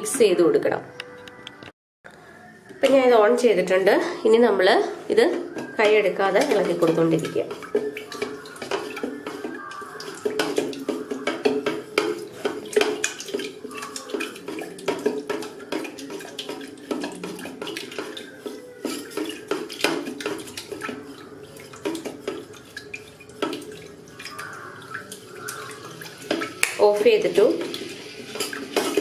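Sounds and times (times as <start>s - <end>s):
ladle clinking and scraping: 5.4s - 29.0s.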